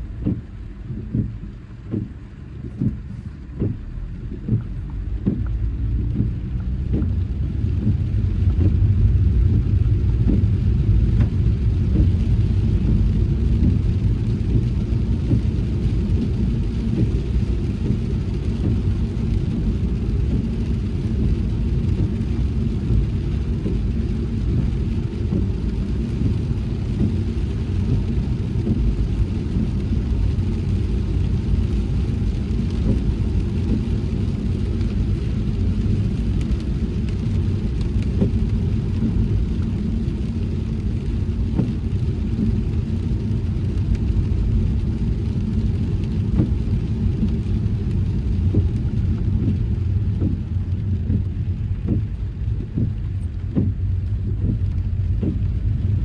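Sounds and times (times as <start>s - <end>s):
road and tyre rumble in rain: 0.0s - 56.0s.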